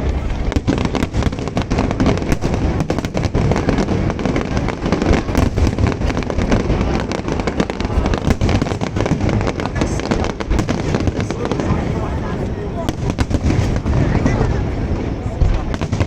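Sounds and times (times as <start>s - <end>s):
fireworks exploding: 0.0s - 16.0s.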